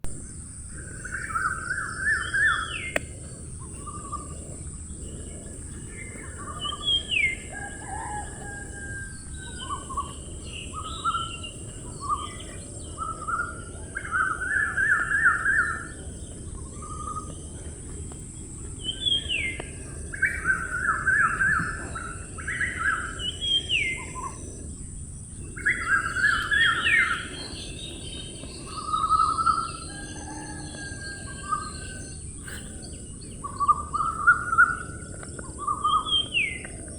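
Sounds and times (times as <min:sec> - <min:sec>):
songbirds chirping: 0:00.1 - 0:36.9.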